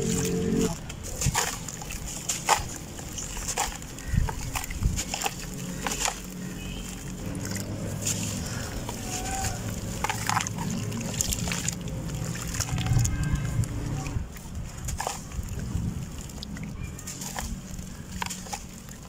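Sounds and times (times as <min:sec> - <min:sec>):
dirt crumbling into water: 0:00.0 - 0:19.0
water splashing and sloshing: 0:00.0 - 0:19.0.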